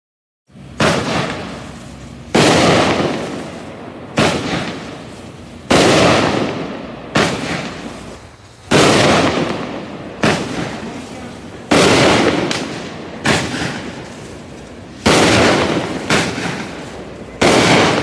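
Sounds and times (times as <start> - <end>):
firework bangs: 0.5 - 18.0.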